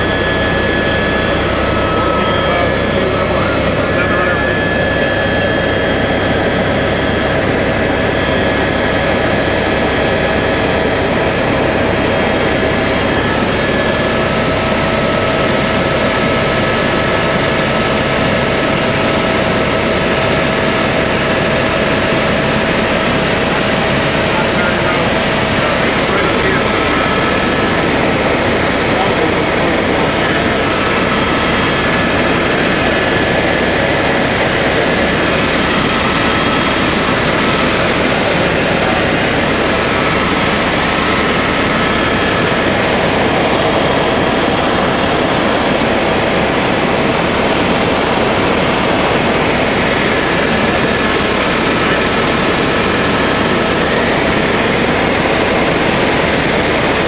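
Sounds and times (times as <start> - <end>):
aircraft cabin engine noise: 0.0 - 57.0.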